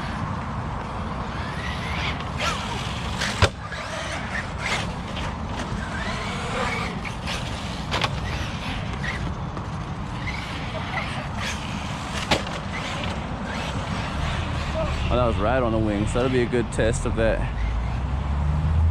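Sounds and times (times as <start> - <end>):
rc car motor whining: 1.1 - 18.0.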